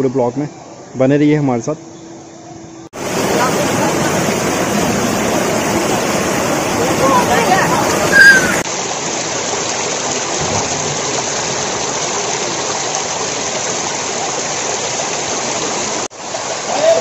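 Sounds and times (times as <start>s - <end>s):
stream water rushing over stones: 3.0s - 17.0s.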